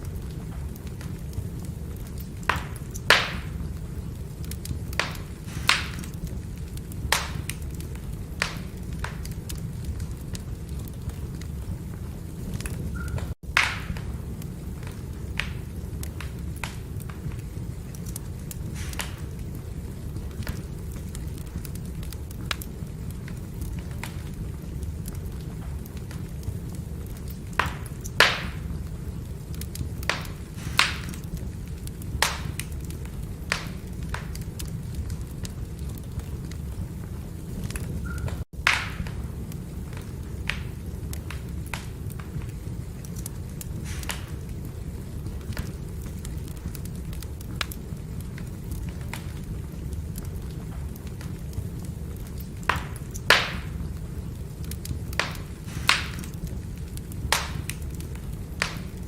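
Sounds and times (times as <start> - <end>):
firewood burning and crackling: 0.0 - 59.0
sharp fire pops: 0.0 - 59.0.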